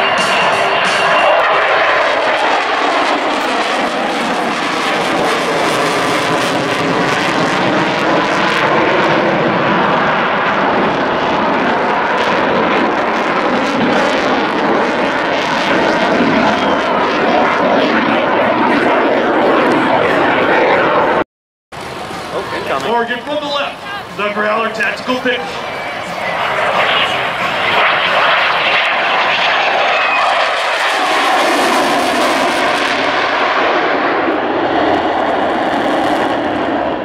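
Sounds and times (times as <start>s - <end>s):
jet engine roar overhead: 0.0s - 21.2s, 21.8s - 37.0s.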